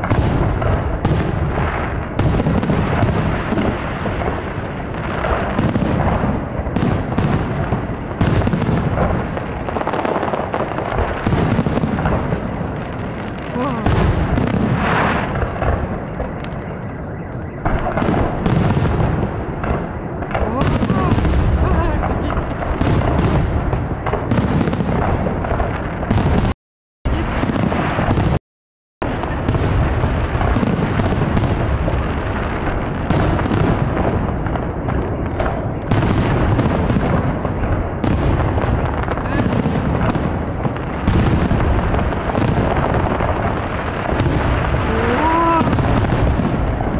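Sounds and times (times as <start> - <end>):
fireworks bangs: 0.0 - 28.4, 29.0 - 46.9
fireworks crackling: 0.0 - 28.4, 29.0 - 46.9.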